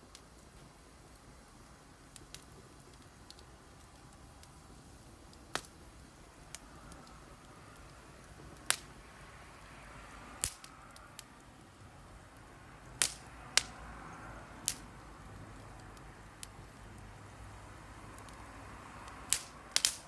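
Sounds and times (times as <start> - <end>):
campfire popping: 0.0 - 20.0
flames hissing: 0.0 - 20.0.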